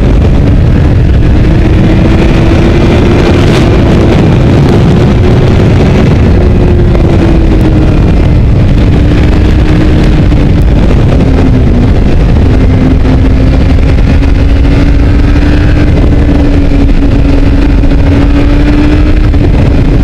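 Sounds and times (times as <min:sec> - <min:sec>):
motorcycle engine running: 0:00.0 - 0:20.0
wind buffeting on microphone: 0:00.0 - 0:20.0.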